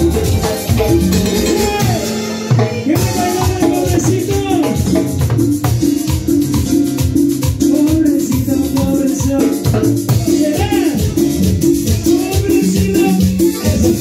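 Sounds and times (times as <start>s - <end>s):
congas bongos and timbales: 0.0s - 14.0s
electronic keyboard melody: 0.0s - 14.0s
latin dance band playing: 0.0s - 14.0s.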